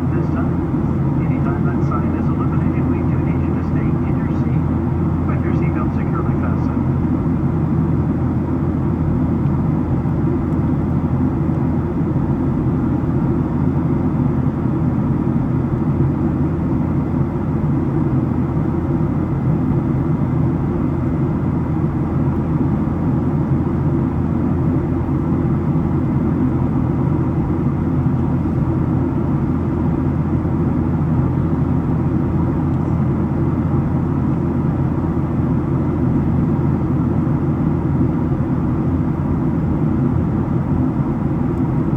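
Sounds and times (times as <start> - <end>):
airplane cabin drone: 0.0 - 41.9.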